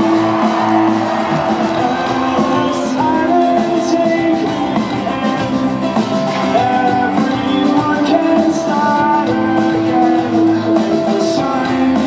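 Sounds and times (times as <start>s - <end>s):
drums and cymbals: 0.0s - 12.0s
man singing: 1.7s - 12.0s.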